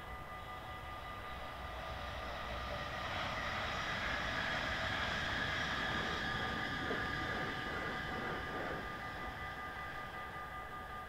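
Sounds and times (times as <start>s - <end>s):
train rail noise: 0.0s - 11.0s.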